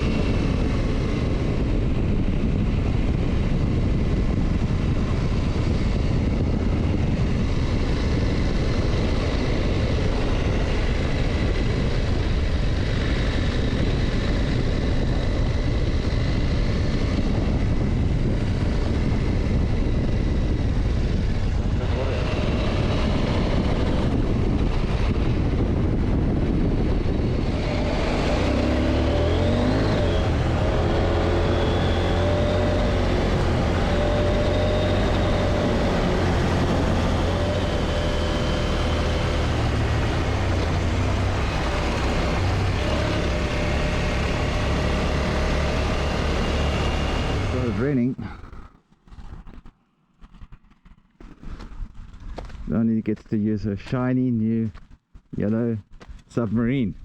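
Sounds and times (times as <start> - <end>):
motorcycle engine running: 0.0 - 52.7
wind rush on microphone: 0.0 - 57.0.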